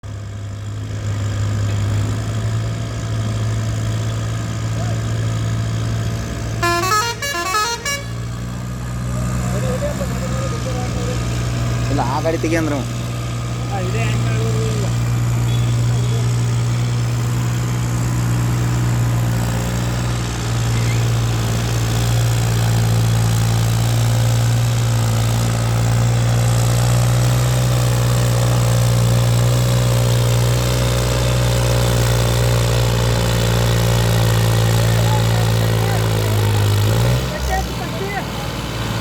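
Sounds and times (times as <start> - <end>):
tractor diesel engine idling: 0.0 - 39.0.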